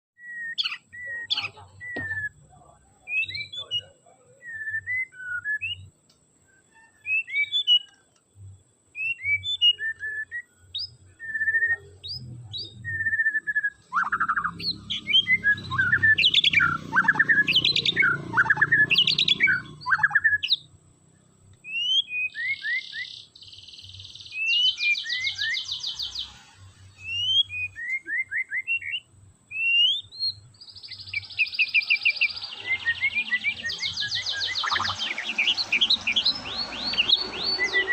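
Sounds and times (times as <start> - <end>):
bird singing whistled song: 0.2 - 5.9, 6.5 - 8.2, 8.9 - 20.7, 21.6 - 37.9.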